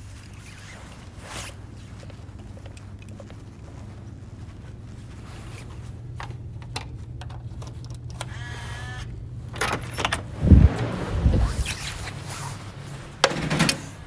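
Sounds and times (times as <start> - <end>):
low hum: 2.4 - 14.0.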